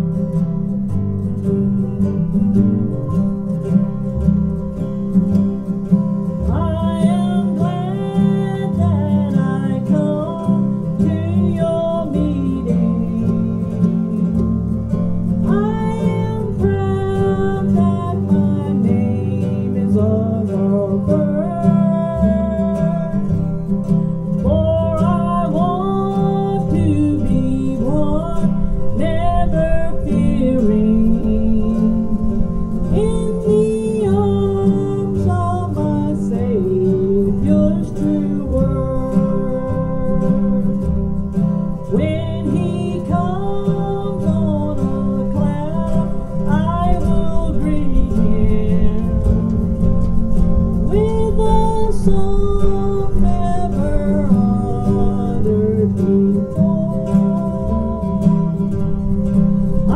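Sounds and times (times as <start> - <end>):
acoustic guitar: 0.0 - 59.9
upright bass: 0.0 - 59.9
woman singing through pa: 6.4 - 14.5, 15.4 - 50.0, 50.8 - 59.9.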